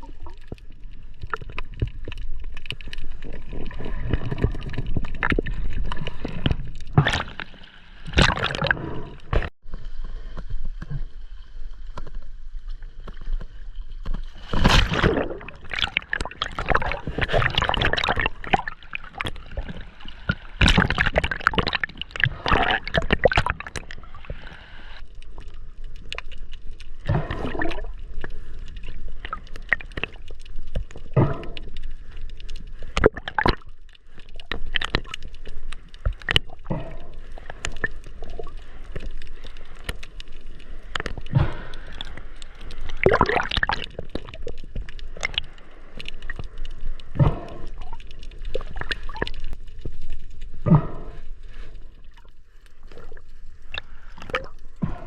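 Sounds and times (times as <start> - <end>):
water sloshing and gurgling: 0.0 - 55.0
water splashes: 0.0 - 55.0.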